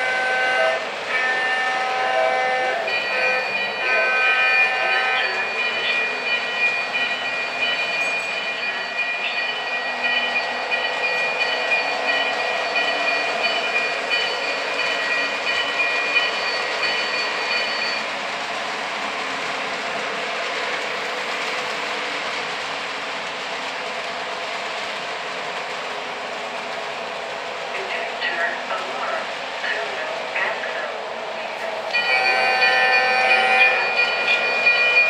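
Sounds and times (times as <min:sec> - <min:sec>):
high locomotive whine: 0:00.0 - 0:35.0
model train wheels rumbling on rails: 0:00.0 - 0:35.0.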